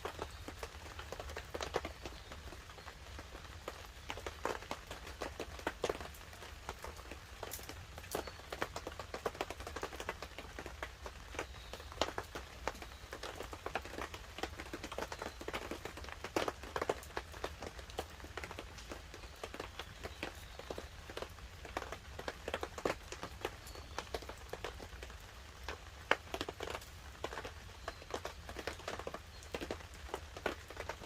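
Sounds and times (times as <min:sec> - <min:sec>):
campfire crackling and popping: 0:00.0 - 0:31.0
light rain pattering on a tarp: 0:00.0 - 0:31.0.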